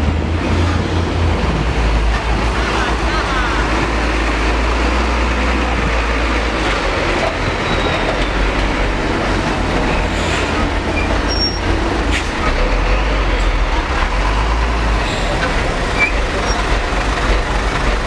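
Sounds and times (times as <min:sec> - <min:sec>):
diesel truck engine rumbling: 0:00.0 - 0:18.0.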